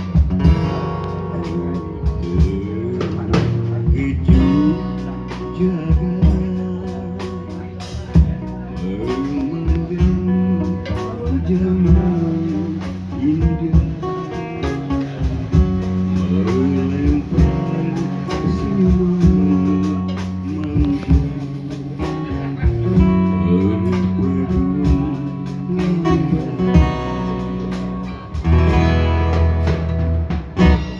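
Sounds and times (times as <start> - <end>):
man singing into microphone: 0.0 - 28.1
amplified guitars: 0.0 - 30.9
steady beat: 0.0 - 30.9.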